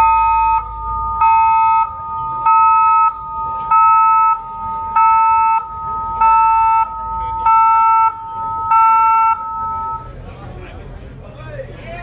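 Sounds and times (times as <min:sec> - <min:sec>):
high two-note electronic tone: 0:00.0 - 0:10.2.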